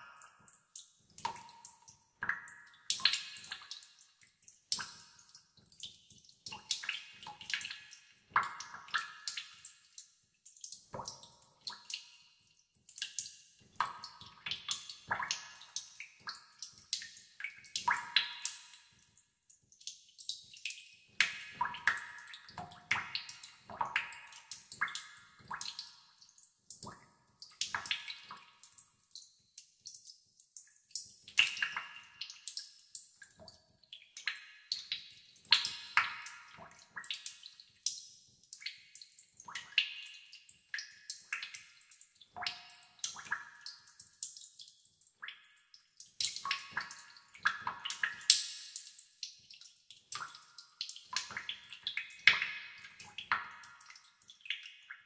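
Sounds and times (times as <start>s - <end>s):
water drops plinking into water: 0.0s - 55.0s.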